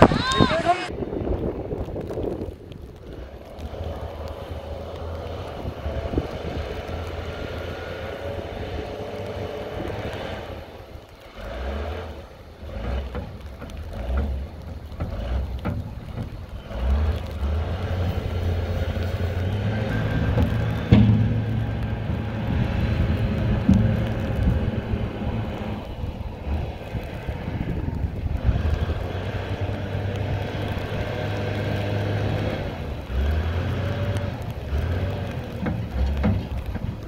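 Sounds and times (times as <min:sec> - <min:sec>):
diesel engine working under load: 0:02.0 - 0:37.0.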